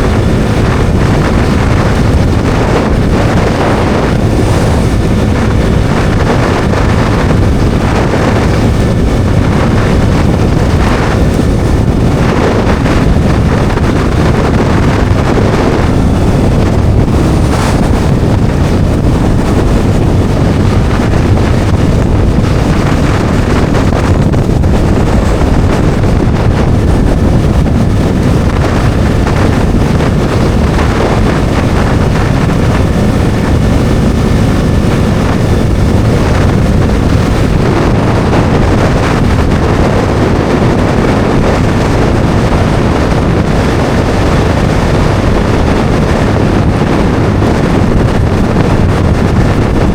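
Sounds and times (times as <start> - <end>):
motorcycle engine humming: 0.0 - 49.9
wind rushing over microphone: 0.0 - 49.9.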